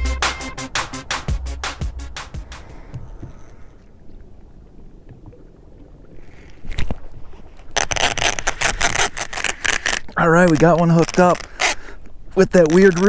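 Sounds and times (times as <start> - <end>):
water and wind noise: 0.6 - 13.0.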